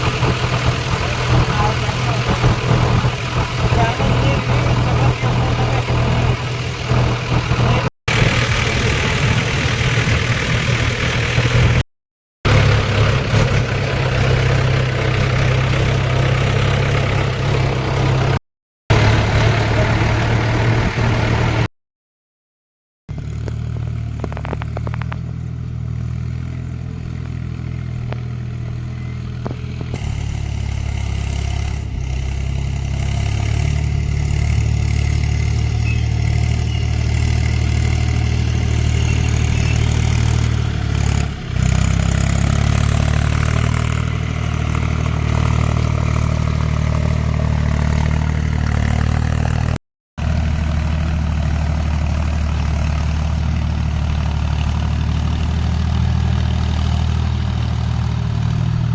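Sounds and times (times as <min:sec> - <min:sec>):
tractor diesel engine droning: 0:00.0 - 0:11.8, 0:12.5 - 0:21.7, 0:23.1 - 0:58.9.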